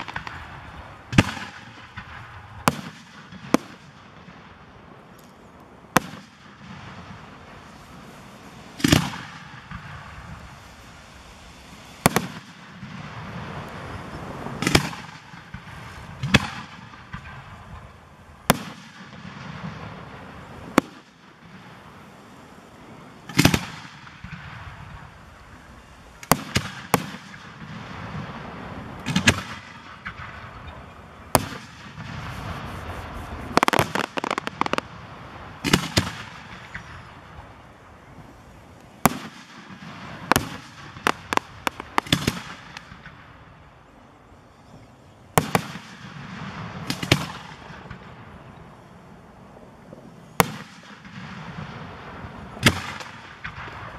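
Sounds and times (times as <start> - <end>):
fireworks shells bursting: 5.0 - 53.9.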